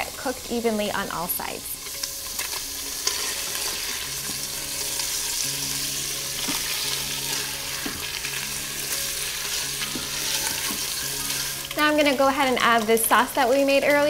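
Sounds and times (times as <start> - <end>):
tofu sizzling in hot oil: 0.0 - 14.0.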